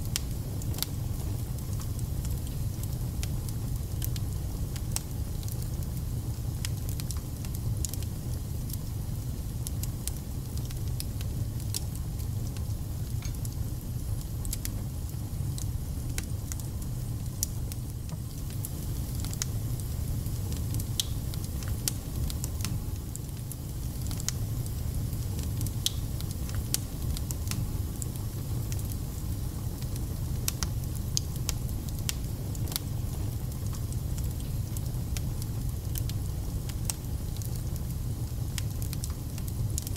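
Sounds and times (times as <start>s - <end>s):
fire crackling and spitting: 0.0s - 39.9s
low fire rumble: 0.0s - 39.9s.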